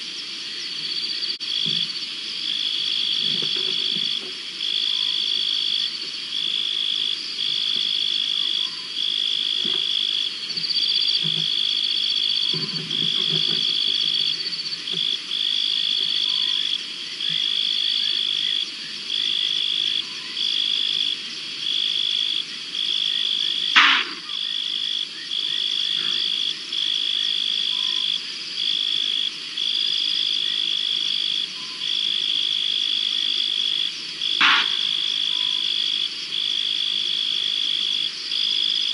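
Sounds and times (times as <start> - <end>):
insects and frogs calling: 0.0 - 38.9.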